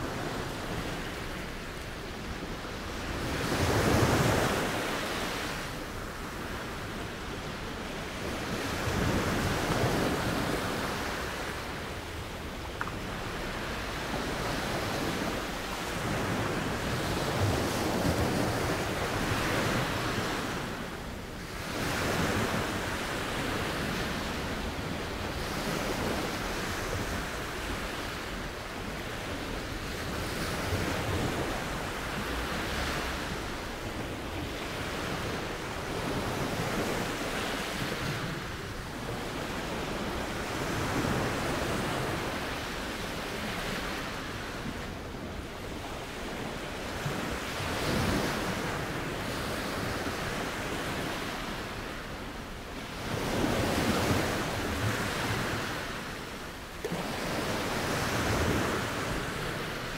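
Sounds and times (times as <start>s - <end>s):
waves washing in: 0.0s - 59.9s.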